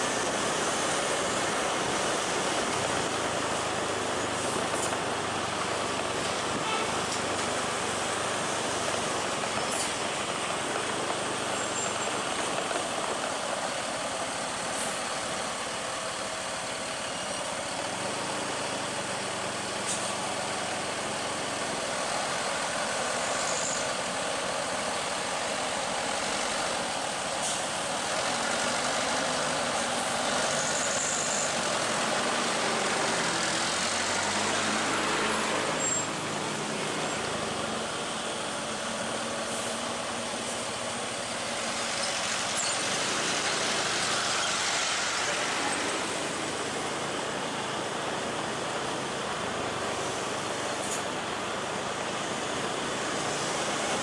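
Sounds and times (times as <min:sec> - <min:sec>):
heavy diesel vehicles running: 0:00.0 - 0:54.0.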